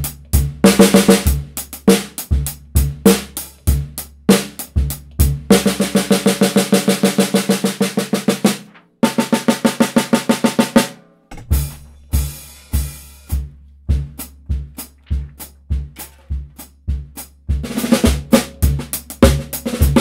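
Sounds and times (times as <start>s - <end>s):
fast drum rolls: 0.0s - 20.0s
steady drum beat: 0.0s - 20.0s.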